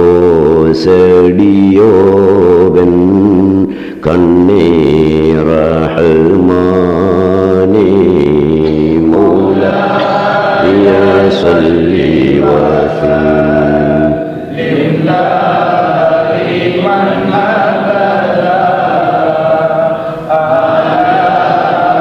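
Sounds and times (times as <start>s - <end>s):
devotional chanting: 0.0s - 22.0s.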